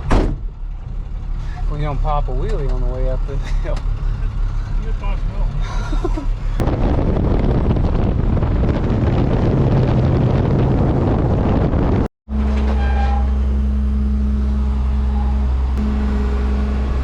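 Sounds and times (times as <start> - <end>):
truck engine running under load: 0.0 - 10.5, 13.2 - 17.0.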